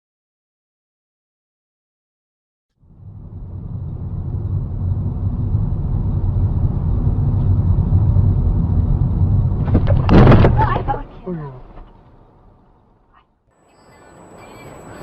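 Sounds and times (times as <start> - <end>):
car engine and road noise: 2.7 - 15.0.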